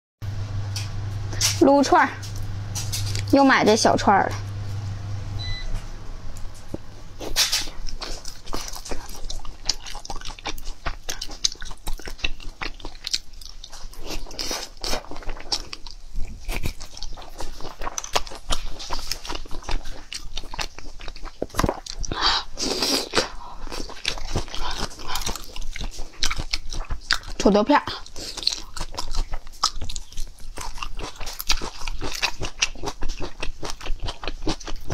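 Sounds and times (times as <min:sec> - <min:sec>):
person chewing meat: 0:06.7 - 0:34.9.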